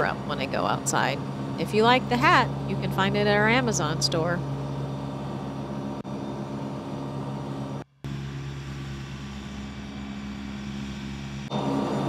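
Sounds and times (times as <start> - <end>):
tractor diesel engine mowing: 0.0 - 12.0.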